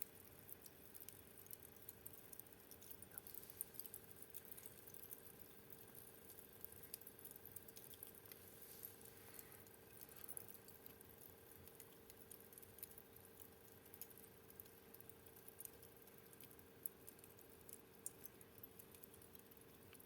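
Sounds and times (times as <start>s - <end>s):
faint steady hum: 0.0s - 20.0s
fire crackling: 0.3s - 20.0s.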